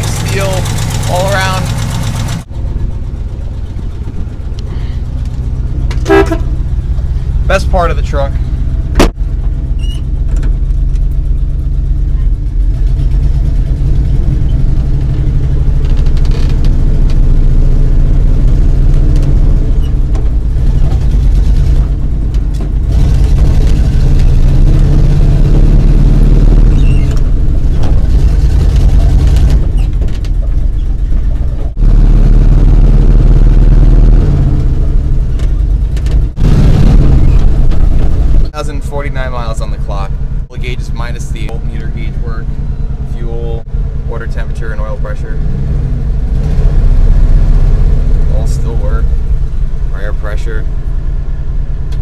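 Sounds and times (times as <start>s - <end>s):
truck engine under load: 0.0s - 52.0s.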